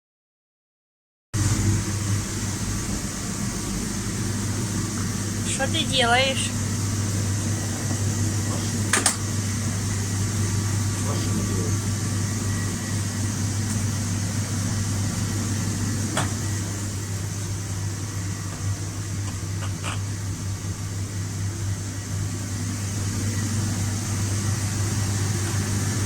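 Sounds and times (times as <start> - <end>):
mechanical hum: 1.4 - 26.0.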